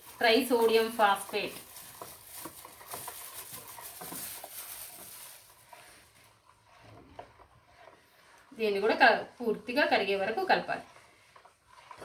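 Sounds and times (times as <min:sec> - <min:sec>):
powder pouring hiss with taps: 0:00.0 - 0:12.0.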